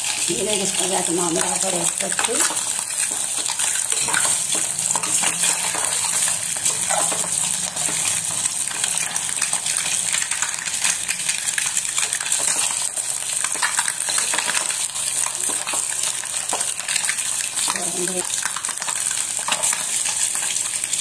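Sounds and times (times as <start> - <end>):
eggs sizzling in hot oil: 0.0 - 21.0.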